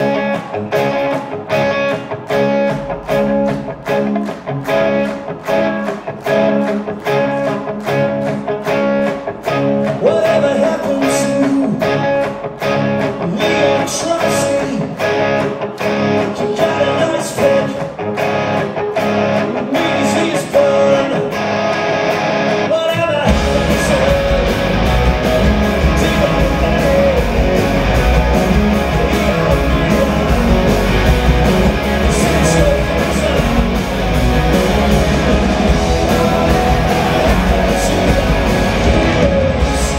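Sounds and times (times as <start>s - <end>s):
bass guitar: 0.0s - 39.9s
drums: 0.0s - 39.9s
electric guitar riff: 0.0s - 39.9s.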